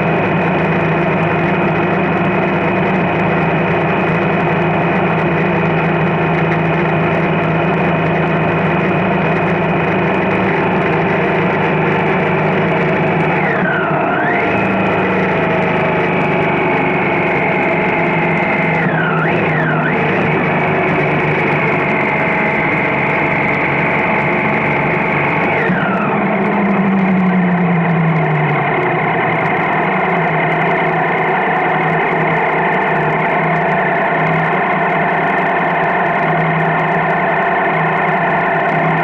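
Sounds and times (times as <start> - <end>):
motorcycle engine running: 0.0 - 39.0
road and wind noise: 0.0 - 39.0.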